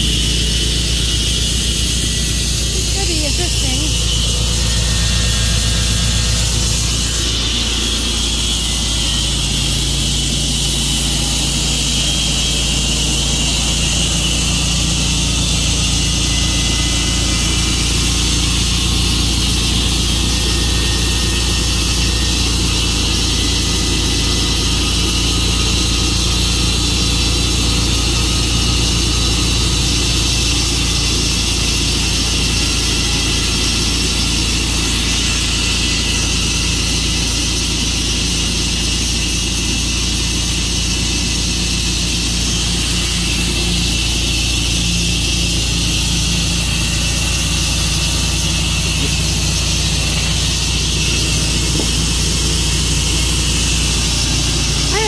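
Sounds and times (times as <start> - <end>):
sawmill blade cutting log: 0.0 - 55.0.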